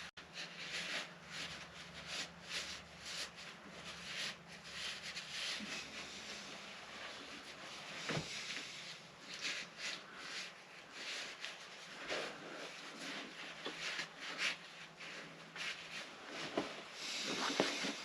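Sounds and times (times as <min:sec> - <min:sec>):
paper towels scrubbing engine: 0:00.0 - 0:18.0.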